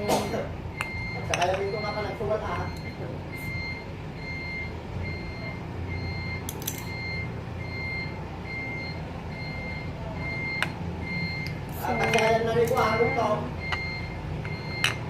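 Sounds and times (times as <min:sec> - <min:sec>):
low steady rumble: 0:00.0 - 0:15.0
steady electronic beep: 0:00.1 - 0:15.0.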